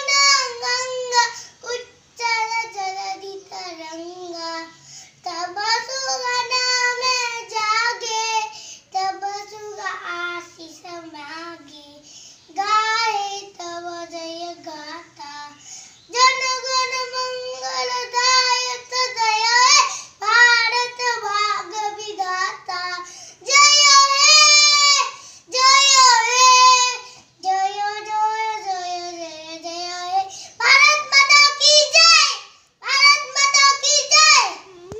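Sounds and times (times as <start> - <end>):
boy singing unaccompanied: 0.0 - 34.9.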